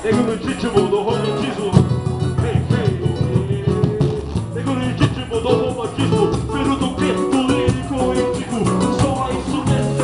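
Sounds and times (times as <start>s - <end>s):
plucked strings: 0.0s - 10.0s
samba percussion beat: 0.0s - 10.0s.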